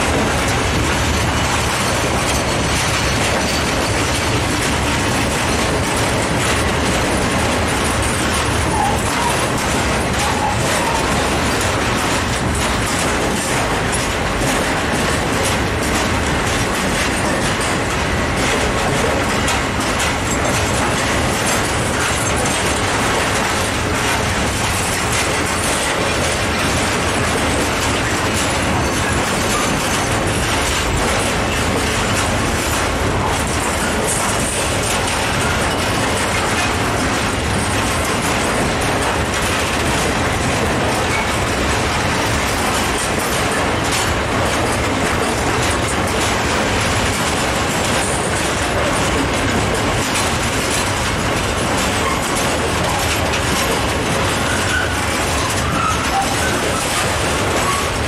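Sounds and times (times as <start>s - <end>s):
train wheels on rails: 0.0s - 58.0s
wheels clacking over rail joints: 0.0s - 58.0s.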